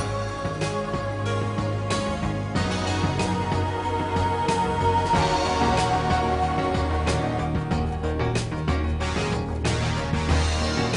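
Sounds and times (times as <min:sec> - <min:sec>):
steady low bass: 0:00.0 - 0:10.9.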